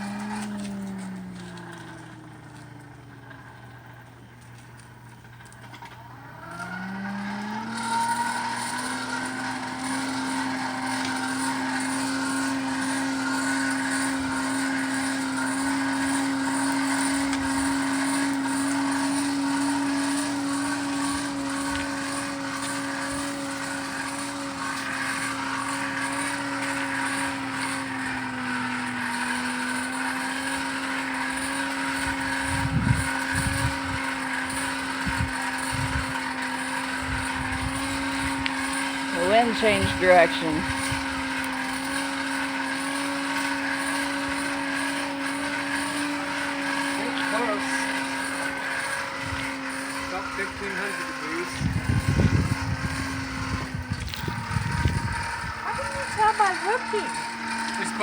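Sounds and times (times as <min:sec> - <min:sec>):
electric forge blower whine: 0:00.0 - 0:58.0.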